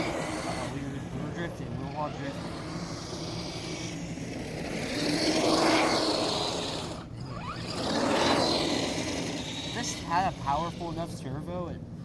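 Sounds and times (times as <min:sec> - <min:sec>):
rc truck motor whining: 0:00.0 - 0:11.2.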